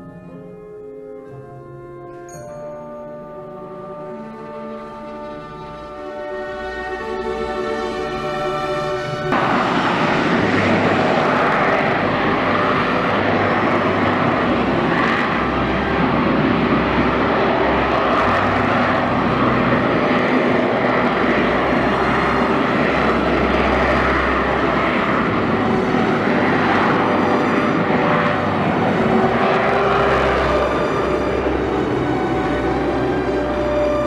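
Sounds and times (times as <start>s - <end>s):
jet engine roaring: 3.2s - 34.0s.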